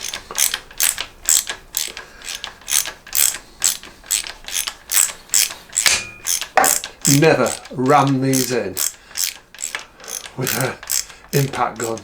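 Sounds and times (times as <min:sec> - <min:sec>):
hand ratchet clicking: 0:00.0 - 0:12.0.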